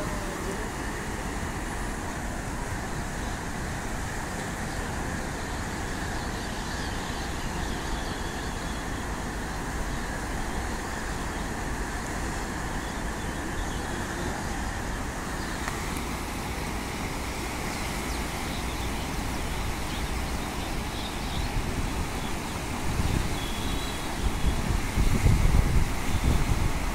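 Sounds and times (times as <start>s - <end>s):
river rushing: 0.0s - 26.9s
wind rumble on microphone: 0.0s - 26.9s.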